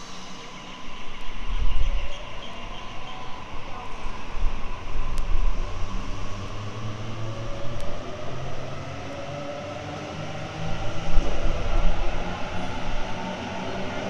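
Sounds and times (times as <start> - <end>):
electric train rumble and hiss: 0.0 - 14.0.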